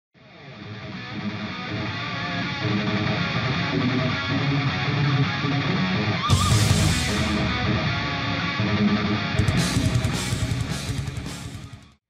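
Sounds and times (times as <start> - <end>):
background music with strummed guitar: 0.2 - 12.0.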